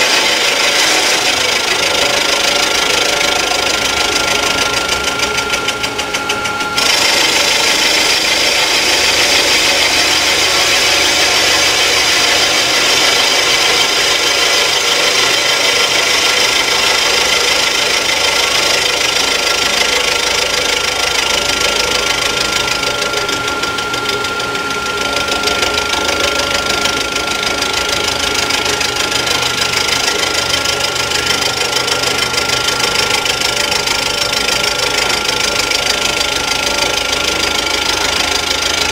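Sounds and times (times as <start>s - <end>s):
end mill cutting metal: 0.0s - 38.9s.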